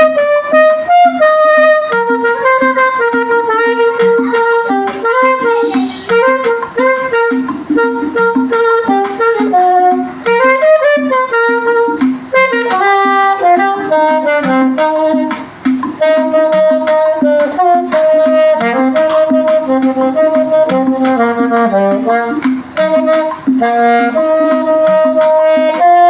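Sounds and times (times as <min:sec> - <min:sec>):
backing track with steady beat: 0:00.0 - 0:26.0
saxophone playing a hymn melody: 0:00.0 - 0:26.0.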